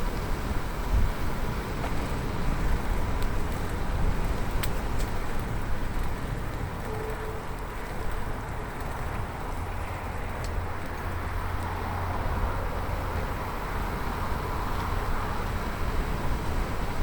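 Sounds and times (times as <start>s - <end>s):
bicycle tyre noise with low rumble: 0.0s - 17.0s.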